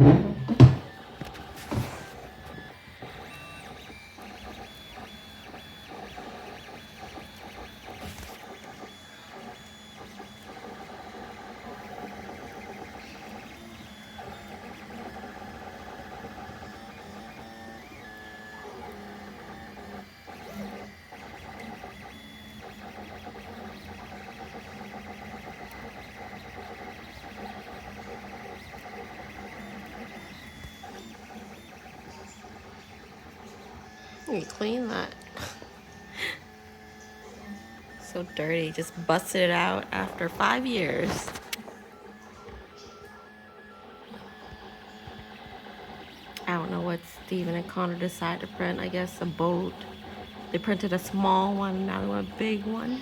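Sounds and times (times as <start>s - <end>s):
stepper motors whining: 0.0s - 53.0s.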